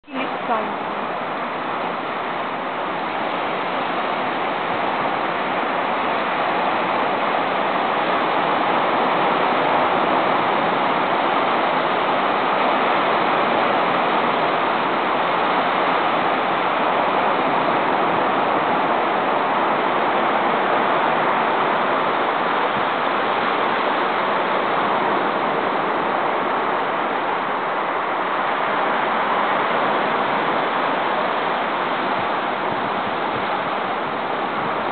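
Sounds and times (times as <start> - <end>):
waves breaking on rocky shore: 0.0 - 34.9.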